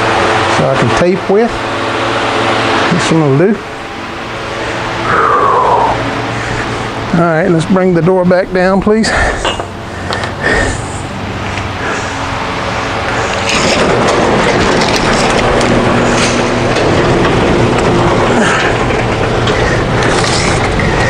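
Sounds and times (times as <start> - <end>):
garage door opener motor running: 0.0 - 21.0
garage door rolling down tracks: 0.0 - 21.0.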